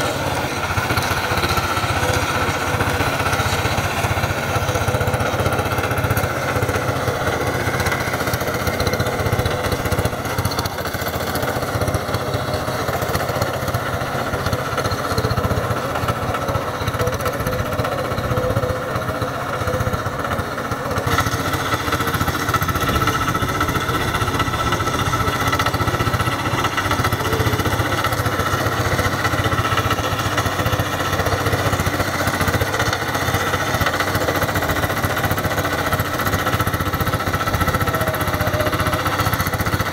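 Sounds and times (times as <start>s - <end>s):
diesel engine running under load: 0.0s - 39.9s
rotary tiller chopping soil: 0.0s - 39.9s.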